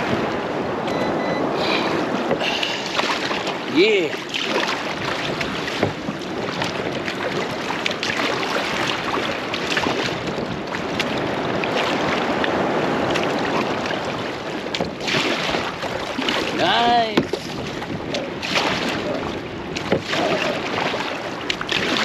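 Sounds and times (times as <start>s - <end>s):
rushing water: 0.0s - 22.0s
wind: 0.0s - 22.0s
small knocks and splashes: 2.2s - 22.0s.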